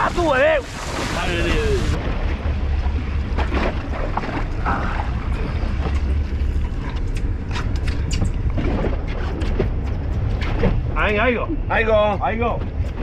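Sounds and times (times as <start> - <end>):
wind on microphone: 0.0 - 11.0
boat motor: 0.0 - 13.0.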